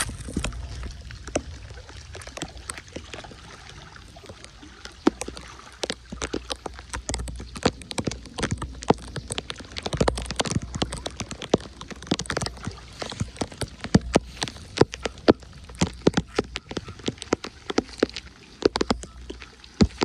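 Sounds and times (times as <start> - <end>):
wind rumble on microphone: 0.0 - 19.3
rain drops splashing on street: 0.0 - 20.0.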